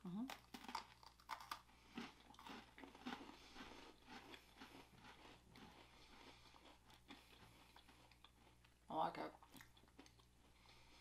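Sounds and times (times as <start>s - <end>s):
people crunching cookies: 0.0s - 11.0s.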